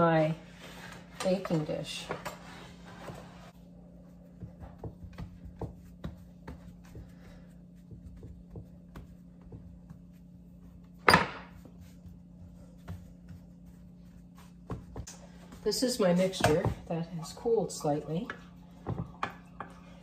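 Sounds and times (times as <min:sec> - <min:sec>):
steady low hum: 0:00.1 - 0:20.0.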